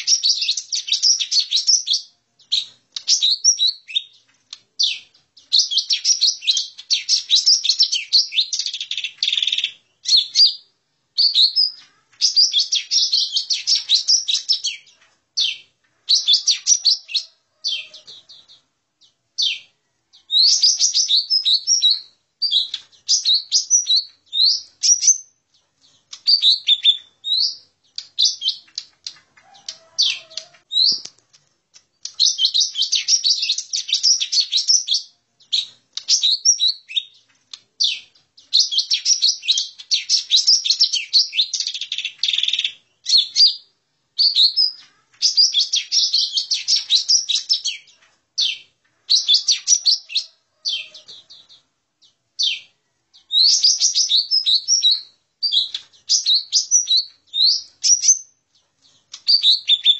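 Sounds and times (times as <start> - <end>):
bird singing high whistled notes: 0.0 - 4.2, 4.8 - 25.4, 26.2 - 28.9, 29.6 - 31.1, 32.1 - 37.2, 37.8 - 51.6, 52.4 - 58.4, 59.1 - 59.9.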